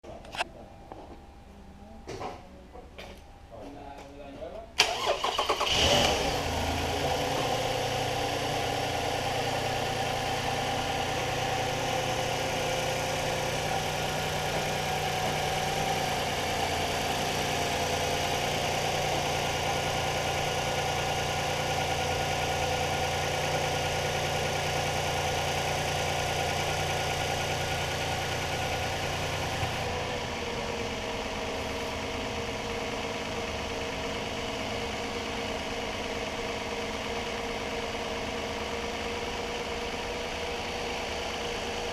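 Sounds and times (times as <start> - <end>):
car engine idling: 4.8 - 41.9.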